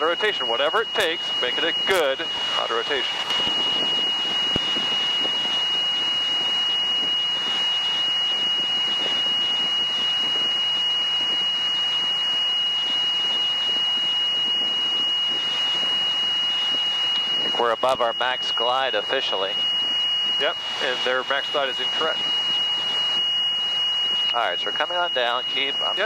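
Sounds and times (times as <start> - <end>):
helicopter rotor noise: 0.0 - 26.0
high-pitched warning tone: 0.0 - 26.0.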